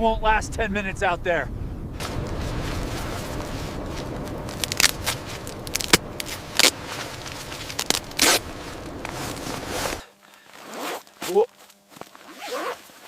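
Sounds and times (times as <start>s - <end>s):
blizzard wind: 0.0s - 10.9s
sharp scraping and crackling: 2.0s - 13.0s.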